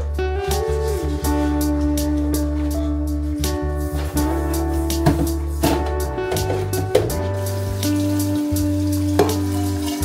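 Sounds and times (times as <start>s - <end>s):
music with light steady beat: 0.0s - 10.0s.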